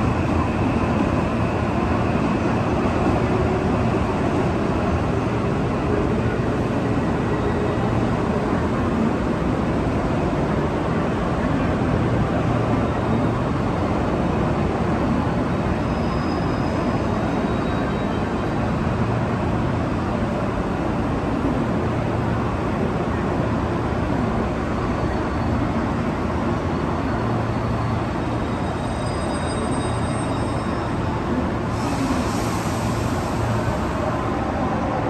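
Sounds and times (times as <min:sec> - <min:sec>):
low rumble and hum of trains: 0:00.0 - 0:35.0.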